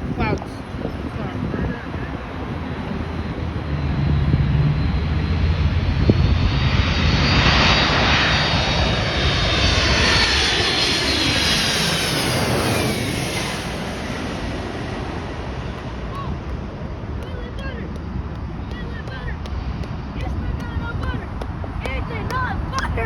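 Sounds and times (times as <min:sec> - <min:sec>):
jet airliner passing: 0:00.0 - 0:23.0.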